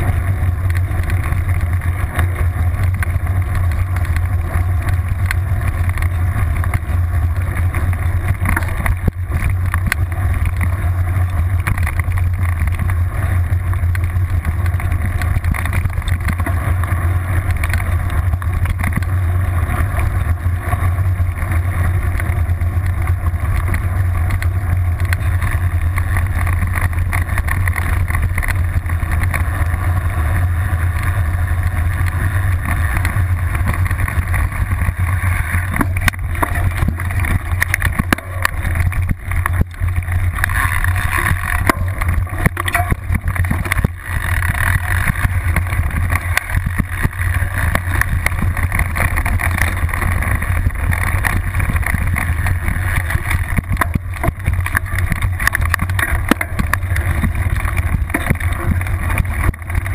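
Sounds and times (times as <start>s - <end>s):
bike knocks and rattles: 0.0s - 59.9s
bike tyre crunching over gravel: 0.0s - 59.9s
wind rumble on microphone: 0.0s - 59.9s.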